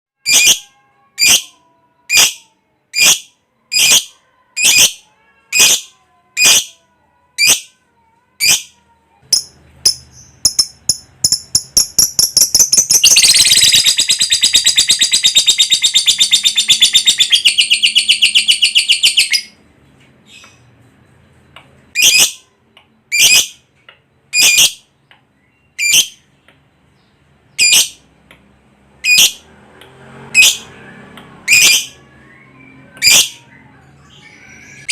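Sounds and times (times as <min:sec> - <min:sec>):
lovebird chirping and trilling: 0:00.2 - 0:06.8, 0:07.4 - 0:07.8, 0:08.4 - 0:19.6, 0:21.9 - 0:23.7, 0:24.3 - 0:28.1, 0:29.0 - 0:29.4, 0:30.2 - 0:34.9.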